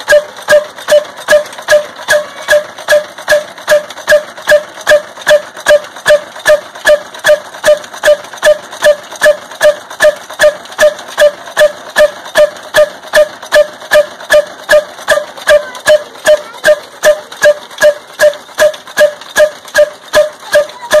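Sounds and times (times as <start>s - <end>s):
diesel engine knocking: 0.0s - 21.0s.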